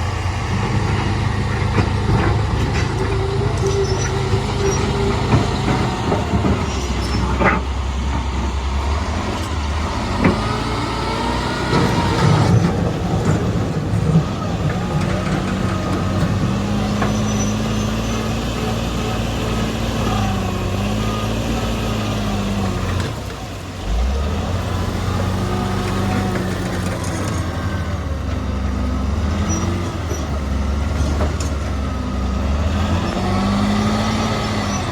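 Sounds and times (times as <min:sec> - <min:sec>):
diesel machinery engine revving: 0:00.0 - 0:34.9.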